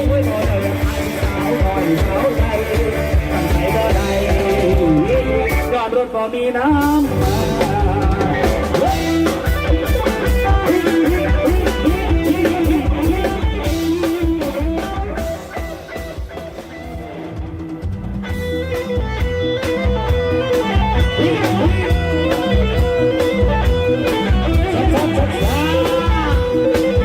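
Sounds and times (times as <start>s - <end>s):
drum kit: 0.0s - 6.0s, 6.7s - 27.0s
bending lead melody: 0.0s - 27.0s.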